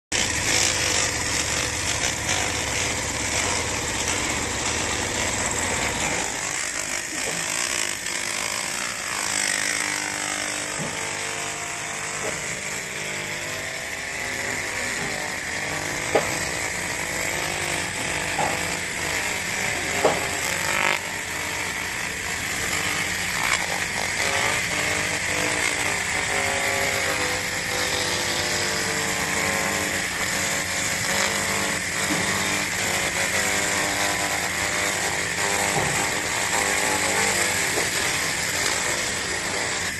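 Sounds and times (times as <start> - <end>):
laser cleaning machine buzzing hiss: 0.2 - 39.9.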